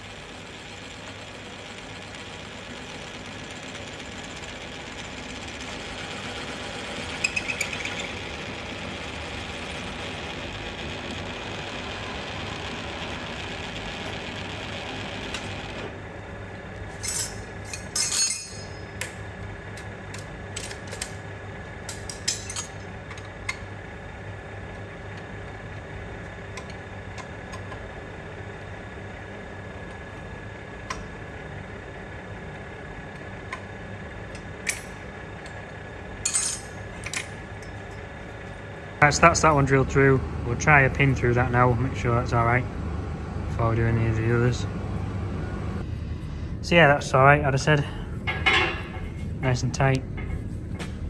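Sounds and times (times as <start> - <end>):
steady motor hum: 0.0 - 51.0.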